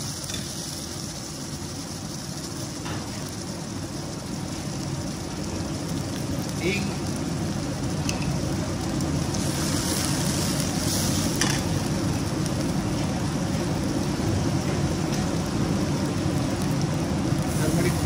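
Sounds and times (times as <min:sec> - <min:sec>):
low background roar: 0:00.0 - 0:18.0
spices sizzling in hot oil: 0:00.0 - 0:18.0.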